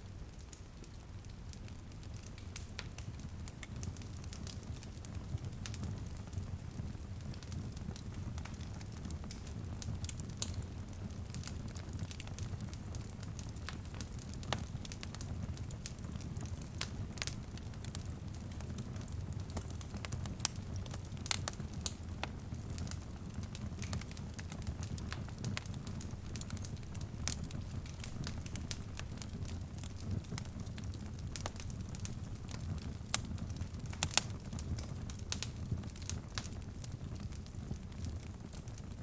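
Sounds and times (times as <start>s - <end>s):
low rumble of flames: 0.0s - 39.0s
light drizzle on a window: 0.2s - 39.0s
wood fire pops and snaps: 2.0s - 39.0s.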